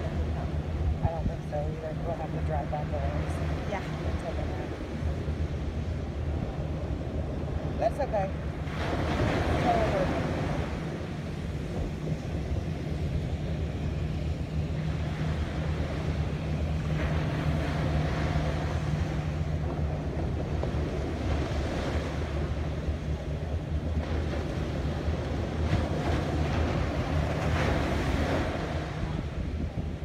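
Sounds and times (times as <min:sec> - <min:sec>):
steady low hum: 0:00.0 - 0:30.0
surf washing up beach: 0:00.0 - 0:30.0
wind on microphone: 0:00.0 - 0:30.0.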